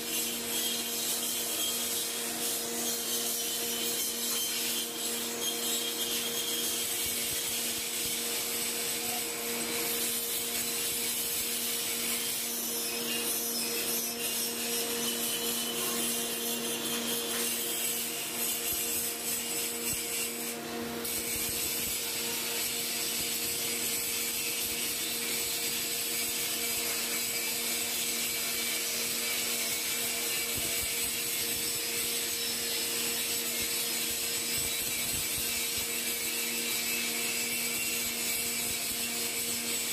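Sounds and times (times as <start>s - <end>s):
grinding wheel on metal: 0.0s - 39.9s.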